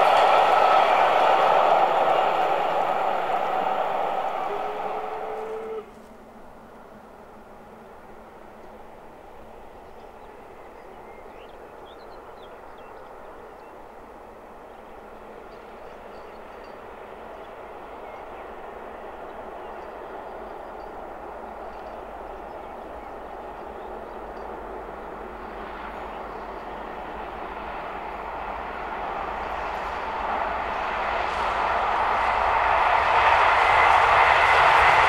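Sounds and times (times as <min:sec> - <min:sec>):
steam train approaching: 0:00.0 - 0:35.0.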